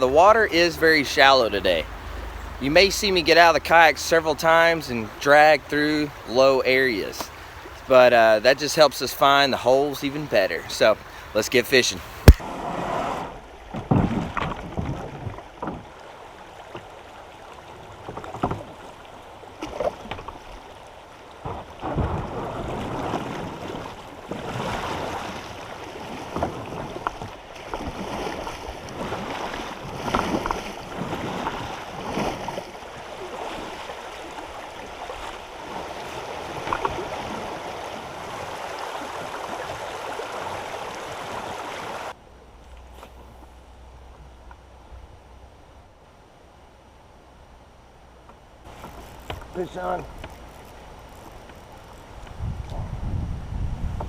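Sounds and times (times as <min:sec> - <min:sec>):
paddling water splashing: 0:00.0 - 0:44.7, 0:48.2 - 0:52.8.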